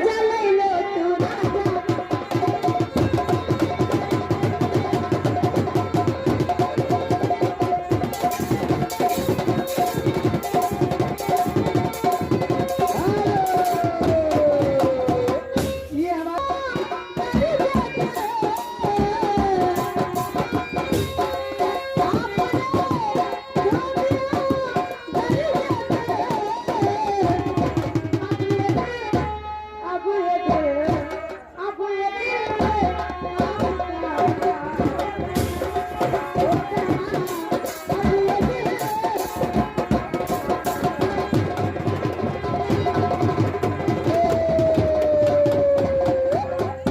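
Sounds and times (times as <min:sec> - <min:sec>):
tabla playing busy rhythm: 0:00.0 - 0:46.9.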